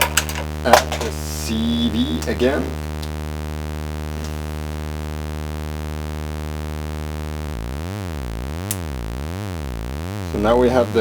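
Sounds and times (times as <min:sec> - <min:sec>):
synthesizer steady low tone: 0:00.0 - 0:11.0.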